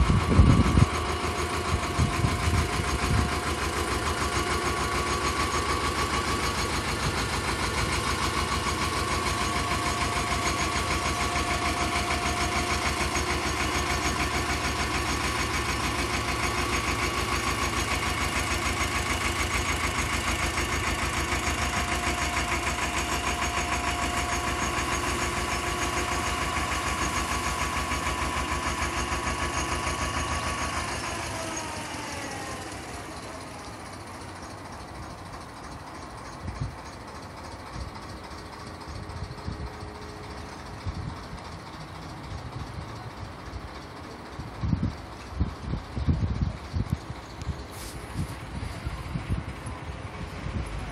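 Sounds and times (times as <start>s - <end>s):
boat diesel engine beating steadily: 0.0s - 50.9s.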